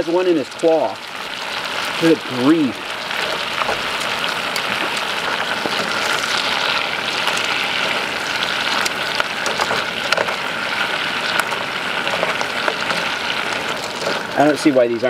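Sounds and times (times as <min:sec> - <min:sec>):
crawfish sizzling in butter: 0:00.0 - 0:15.0.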